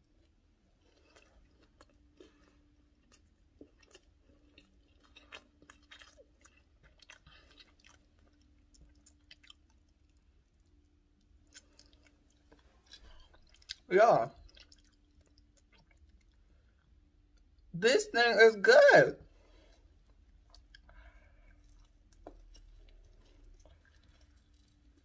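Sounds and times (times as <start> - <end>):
person chewing food: 0.0 - 17.7, 19.3 - 25.0.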